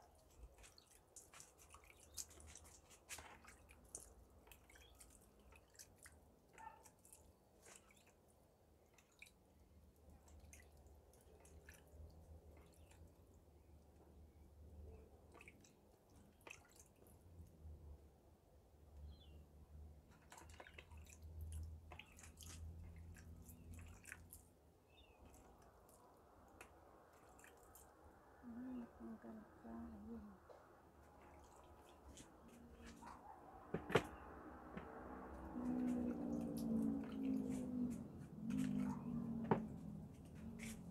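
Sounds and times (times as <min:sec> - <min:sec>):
water dripping and splashing: 0:00.0 - 0:17.8, 0:20.0 - 0:28.4, 0:30.8 - 0:40.9.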